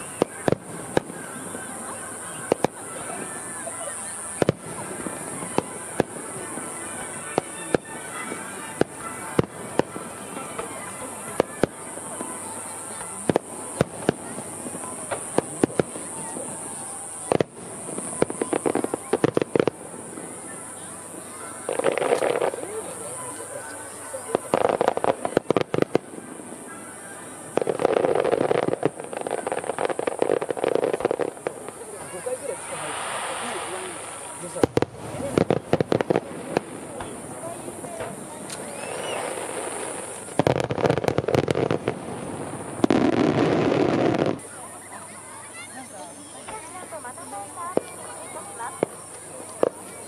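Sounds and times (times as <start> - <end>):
rapid crackling firework pops: 0.0 - 1.6, 2.3 - 3.4, 4.0 - 20.6, 21.7 - 22.9, 24.2 - 26.7, 27.4 - 44.4, 46.4 - 50.0
steady high hiss: 0.0 - 50.0.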